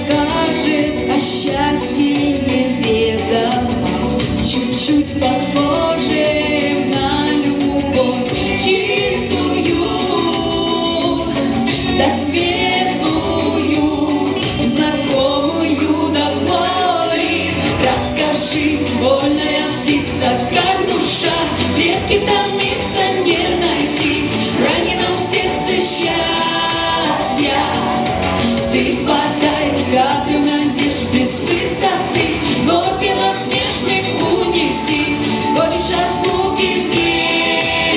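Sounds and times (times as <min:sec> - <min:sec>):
instrumental accompaniment: 0:00.0 - 0:37.9
shaker percussion: 0:00.0 - 0:37.9
woman singing: 0:00.0 - 0:37.9.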